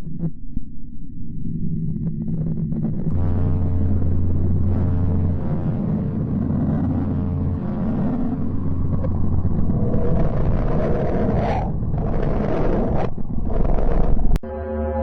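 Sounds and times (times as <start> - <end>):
dense noisy rumble: 0.0 - 14.4
steady low hum: 0.0 - 15.0.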